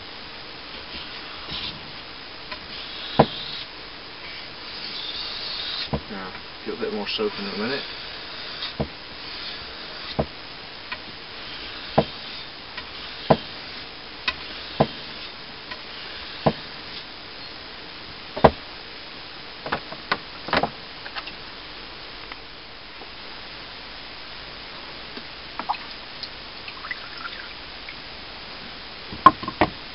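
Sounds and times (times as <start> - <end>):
faint steady hiss: 0.0 - 29.9.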